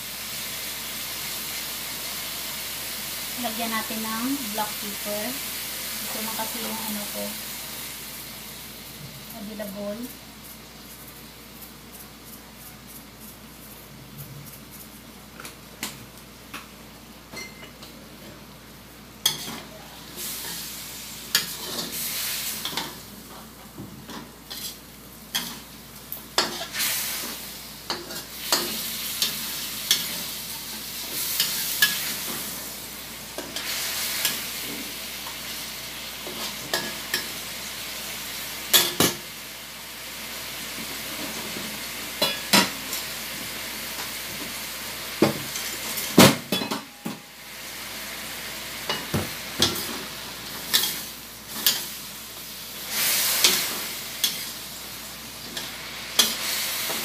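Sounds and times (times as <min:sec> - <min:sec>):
chicken sizzling in a wok: 0:00.0 - 0:57.0.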